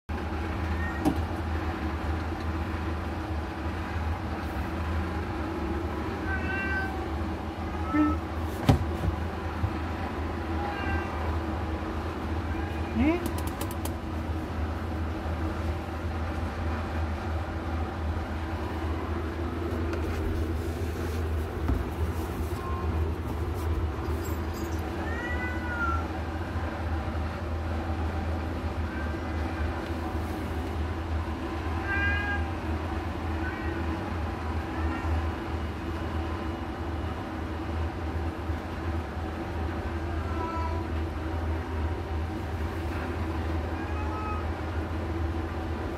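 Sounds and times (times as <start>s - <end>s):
steady low hum: 0.1s - 45.9s.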